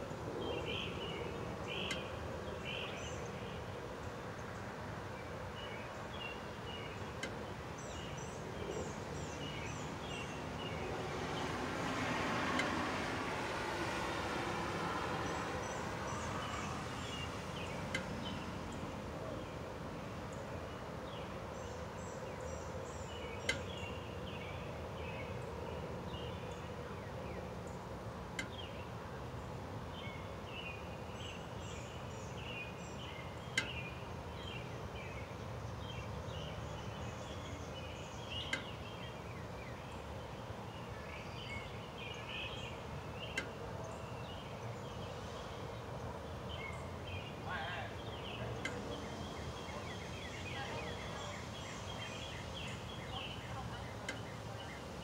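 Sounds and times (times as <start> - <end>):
birds chirping faintly: 0.0 - 55.0.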